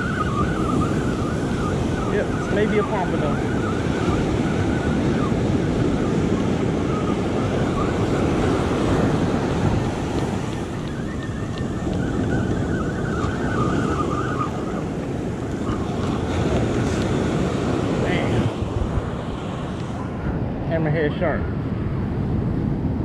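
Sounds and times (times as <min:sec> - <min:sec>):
waves washing up beach: 0:00.0 - 0:23.0
wind buffeting microphone: 0:00.0 - 0:23.0.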